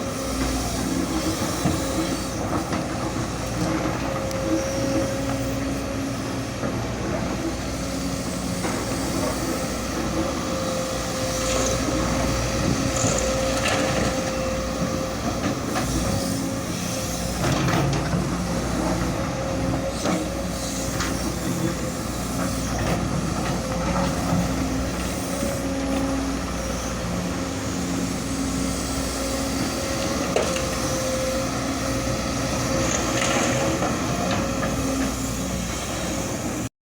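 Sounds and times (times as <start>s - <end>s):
excavator engine running: 0.0s - 36.7s.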